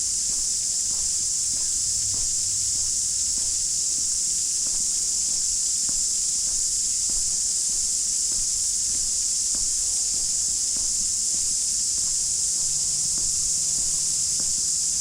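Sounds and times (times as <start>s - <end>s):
cicadas buzzing: 0.0s - 15.0s
faint footsteps on path: 0.0s - 15.0s.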